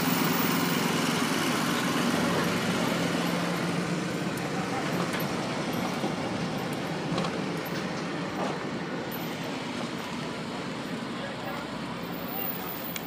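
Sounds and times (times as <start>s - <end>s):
vehicle rumbling on dirt road: 0.0s - 13.0s.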